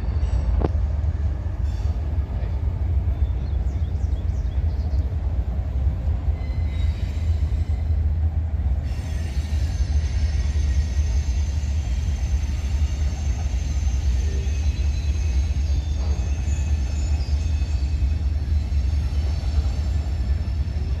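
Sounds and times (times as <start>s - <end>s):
train passing with low rumble: 0.0s - 21.0s.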